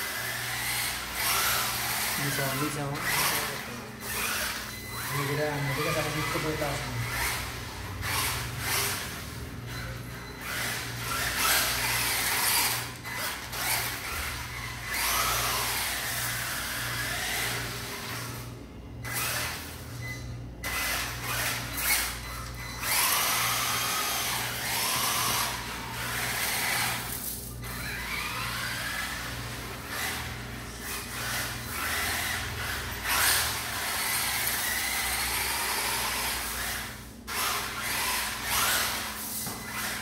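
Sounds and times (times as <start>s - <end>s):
toy car motor whine: 0.0s - 40.0s.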